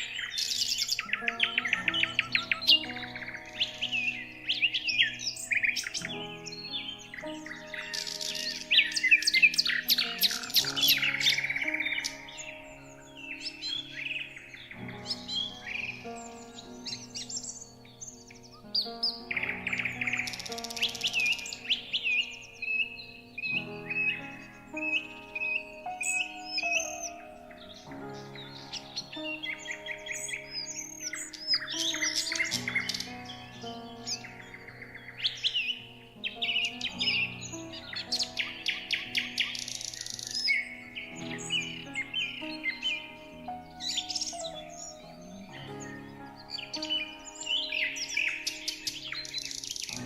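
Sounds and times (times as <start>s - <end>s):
soft background music chords: 0.0s - 50.0s
songbirds chirping and trilling: 0.0s - 50.0s.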